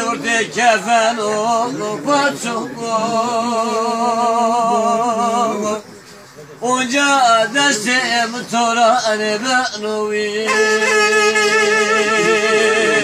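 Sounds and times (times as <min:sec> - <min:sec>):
man singing unaccompanied: 0:00.0 - 0:05.9, 0:06.6 - 0:13.0.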